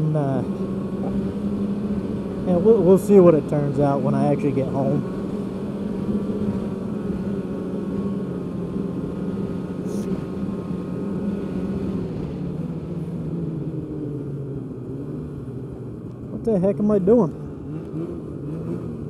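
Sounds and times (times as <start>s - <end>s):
snowmobile engine running: 0.0s - 15.4s.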